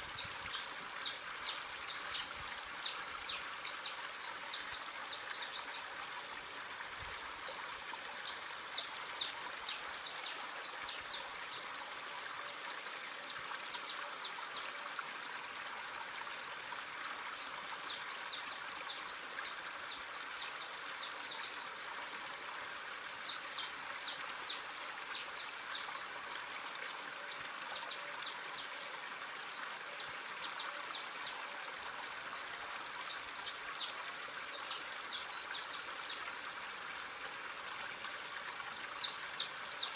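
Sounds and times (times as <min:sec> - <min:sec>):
running stream: 0:00.0 - 0:39.9.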